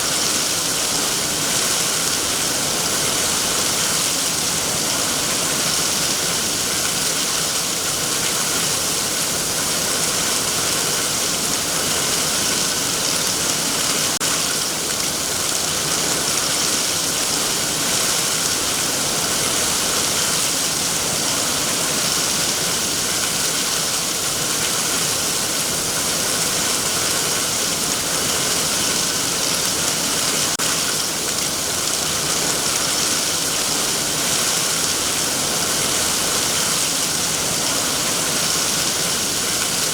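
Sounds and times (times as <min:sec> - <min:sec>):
heavy rain falling on trees: 0:00.0 - 0:39.9.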